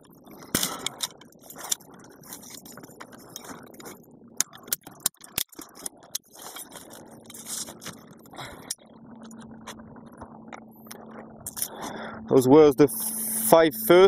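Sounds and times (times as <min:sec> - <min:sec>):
metallic clicks and rattles of wire: 0:00.0 - 0:11.8.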